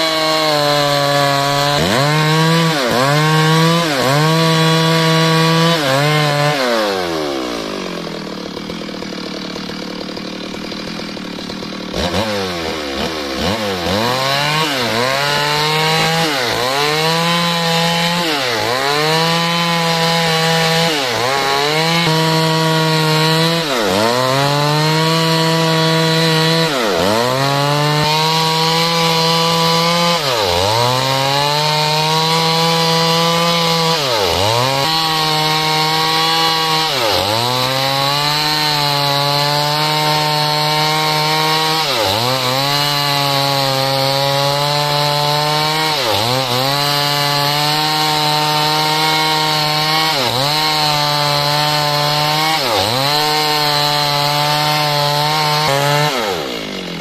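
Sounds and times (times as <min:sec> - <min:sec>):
chainsaw ripping timber: 0:00.0 - 0:57.0.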